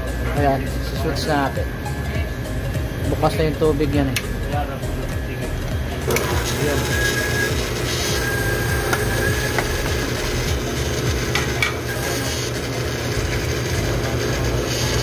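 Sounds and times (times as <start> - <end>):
pump motor running: 0.0 - 15.0.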